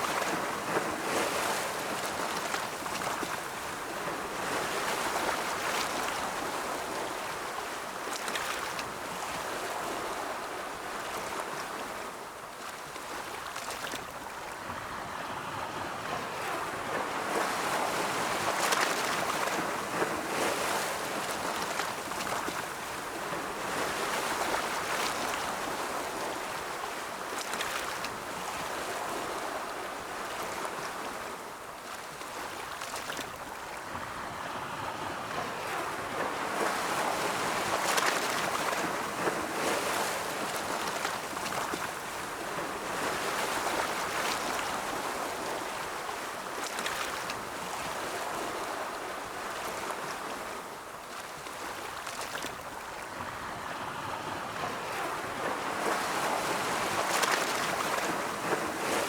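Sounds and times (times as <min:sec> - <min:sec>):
ocean waves rolling in: 0:00.0 - 0:59.0.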